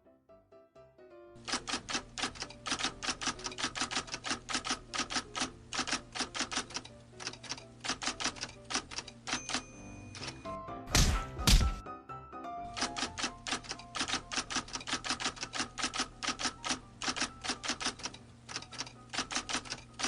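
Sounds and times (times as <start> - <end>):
typewriter keystroke clicks: 1.4 - 10.4, 12.7 - 20.0.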